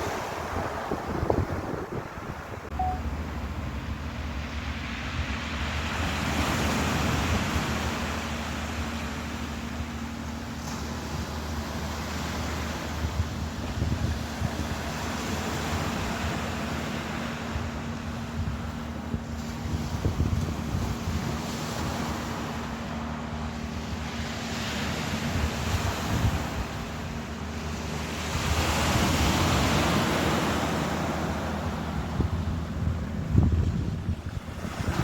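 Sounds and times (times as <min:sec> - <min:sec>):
ocean waves washing: 0:00.0 - 0:35.0
wind buffeting microphone: 0:00.0 - 0:35.0.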